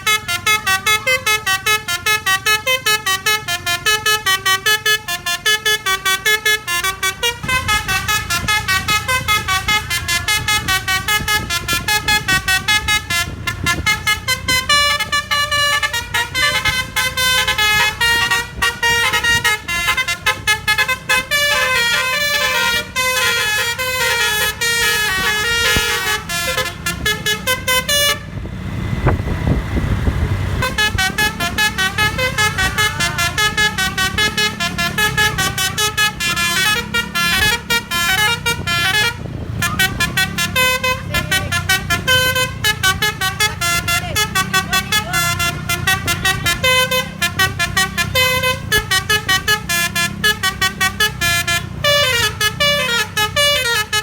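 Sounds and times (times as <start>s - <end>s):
multi-tone bus horn tune: 0.0s - 54.0s.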